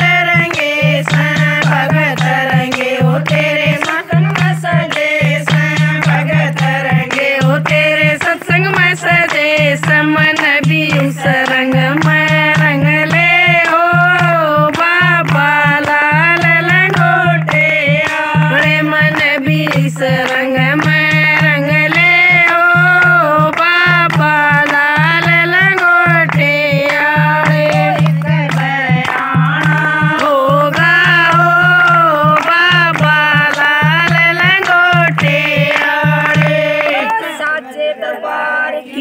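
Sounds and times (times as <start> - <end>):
hand drum beat: 0.0 - 37.3
women singing devotional song: 0.0 - 39.0.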